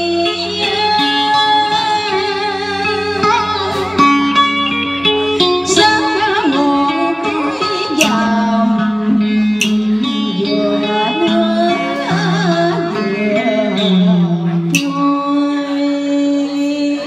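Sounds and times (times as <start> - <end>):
plucked guitar: 0.0 - 17.0
woman singing: 0.0 - 17.0.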